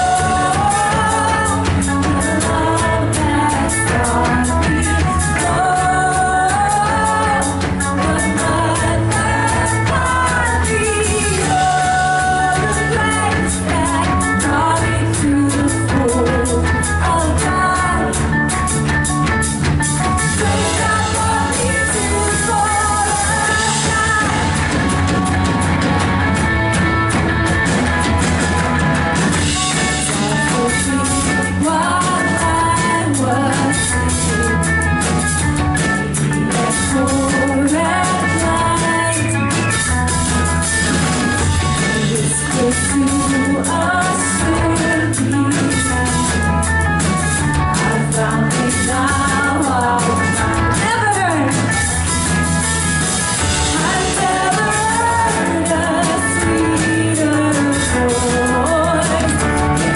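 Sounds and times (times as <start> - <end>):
person singing: 0.0 - 18.3, 20.2 - 28.2, 29.6 - 34.6, 36.1 - 39.9, 41.6 - 46.4, 47.6 - 52.1, 53.5 - 59.9
band playing: 0.0 - 59.9
drum kit: 0.0 - 59.9
electric guitar: 0.0 - 59.9.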